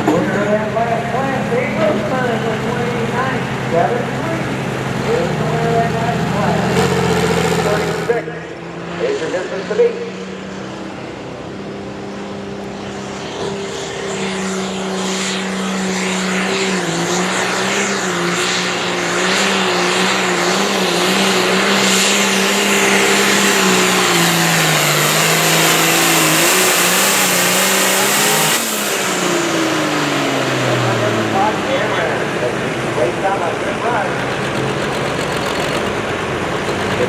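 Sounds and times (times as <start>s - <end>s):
tractor engine at full throttle: 0.0s - 37.0s.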